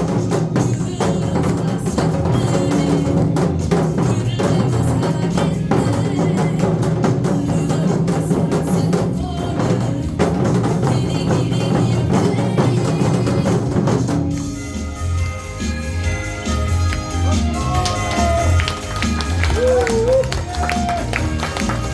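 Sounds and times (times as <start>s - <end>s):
backing track melody: 0.0s - 21.9s
drumming: 0.0s - 21.9s.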